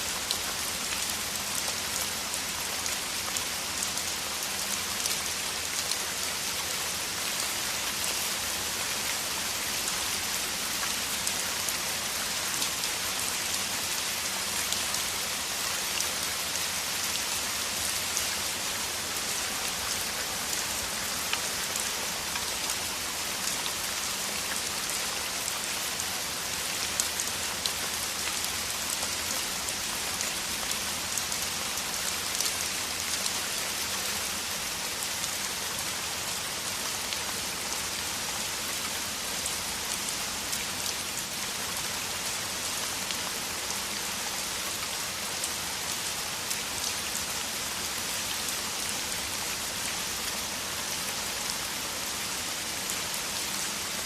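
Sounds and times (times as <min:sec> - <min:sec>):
heavy rain downpour: 0:00.0 - 0:54.0.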